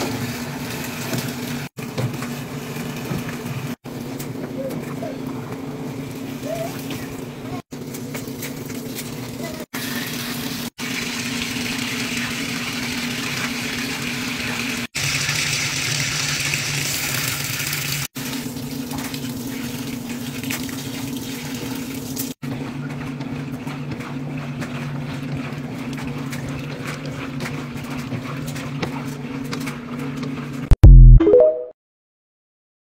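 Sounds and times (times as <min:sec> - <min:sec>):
agitator churning with splashing: 0:00.0 - 0:30.7
washing machine motor hum: 0:00.0 - 0:30.8.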